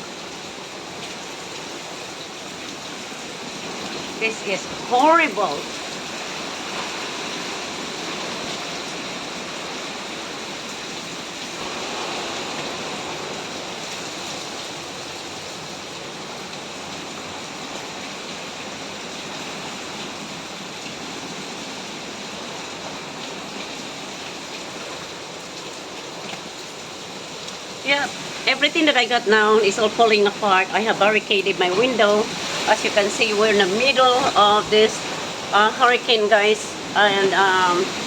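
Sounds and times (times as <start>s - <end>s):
driving rain: 0.0s - 38.0s
hurricane-force wind: 0.0s - 38.0s.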